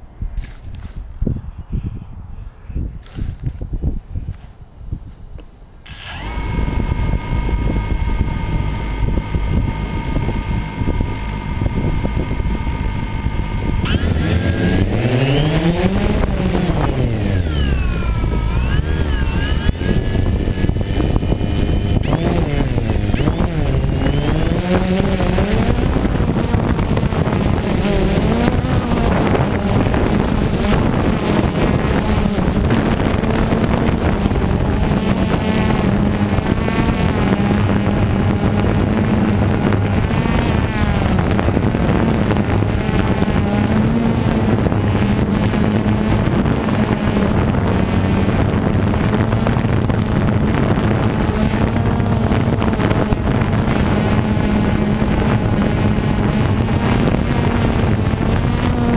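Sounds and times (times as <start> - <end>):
wind buffeting microphone: 0.0 - 58.9
drone propellers whirring: 5.1 - 58.9.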